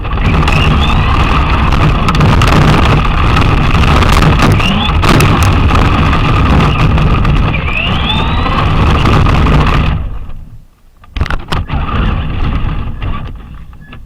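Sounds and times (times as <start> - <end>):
electric motor whine: 0.0 - 10.4, 11.3 - 14.0
rc car rumble and rattle: 0.0 - 14.0.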